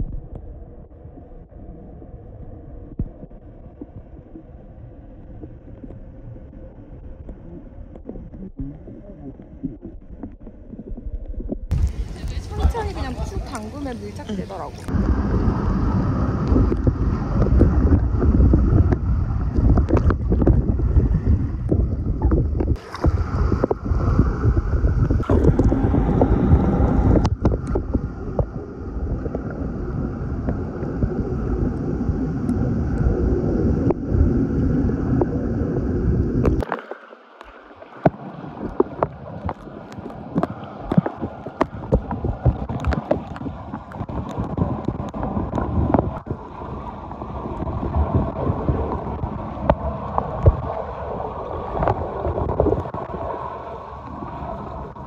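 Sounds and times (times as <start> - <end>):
crackles: 0.0 - 55.0
underwater rumble of moving water: 0.0 - 55.0.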